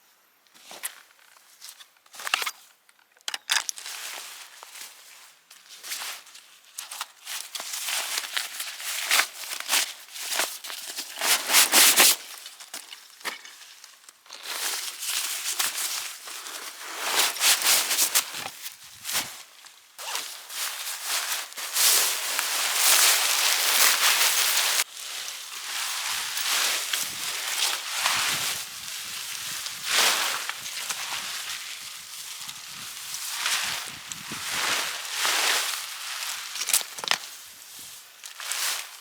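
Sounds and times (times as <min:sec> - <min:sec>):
camping gear rustling and crinkling: 0:00.5 - 0:39.0.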